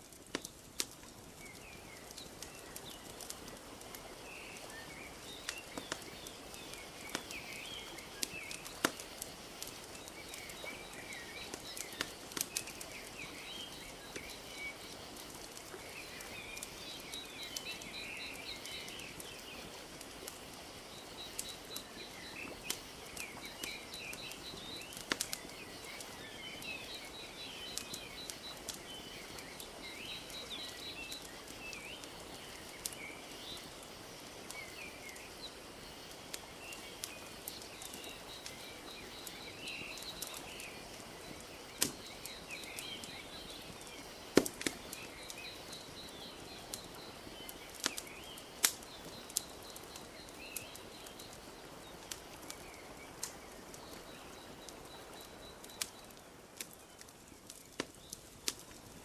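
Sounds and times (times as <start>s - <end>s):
small birds chirping: 0.0s - 59.0s
wood fire crackling and popping: 0.0s - 59.0s.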